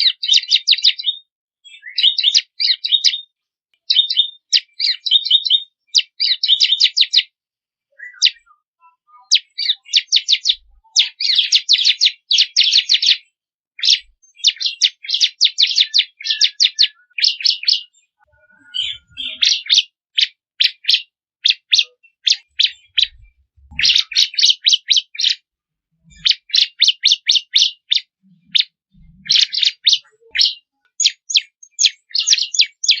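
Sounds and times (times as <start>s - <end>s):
bird singing rapid high chirps: 0.0s - 33.0s.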